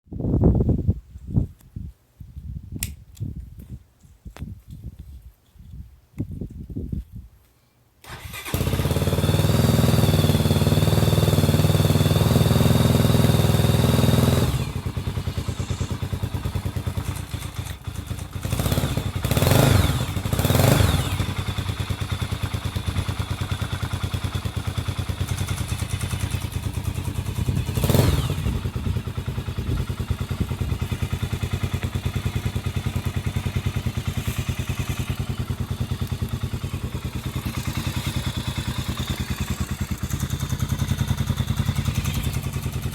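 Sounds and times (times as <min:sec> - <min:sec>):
motorcycle engine idling: 0:08.1 - 0:42.9.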